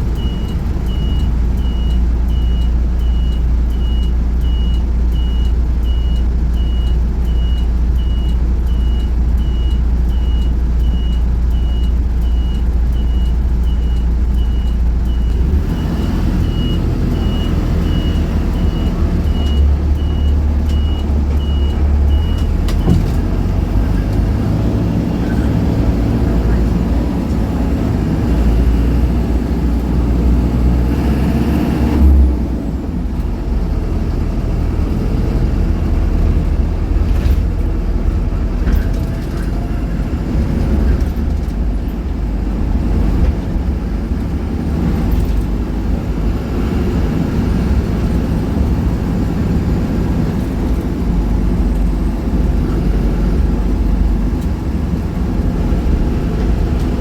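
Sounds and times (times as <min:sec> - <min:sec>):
minibus engine and road rumble: 0:00.0 - 0:57.0.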